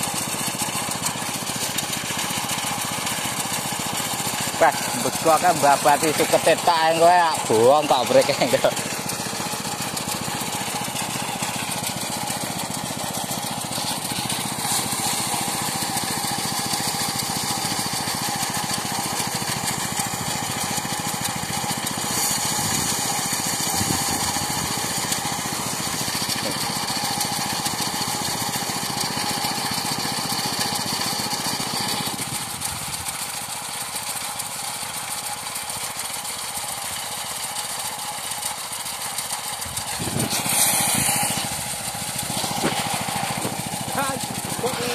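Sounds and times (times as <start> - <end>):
threshing machine running: 0.0 - 44.9.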